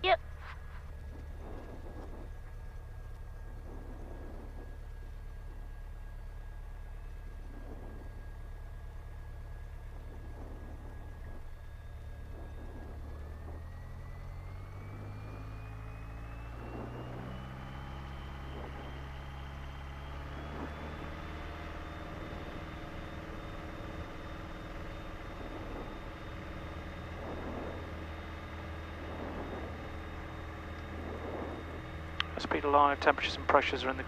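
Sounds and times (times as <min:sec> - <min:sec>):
light aircraft engine and propeller: 0:00.0 - 0:34.0.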